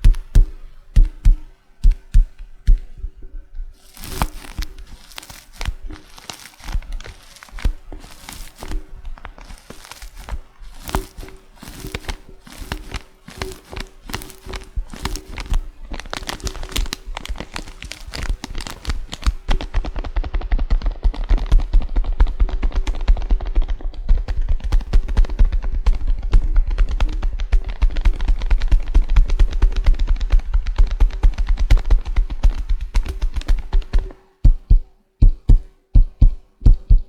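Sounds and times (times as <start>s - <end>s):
fingers tapping and crinkling packaging: 0.0s - 3.0s, 3.8s - 37.0s.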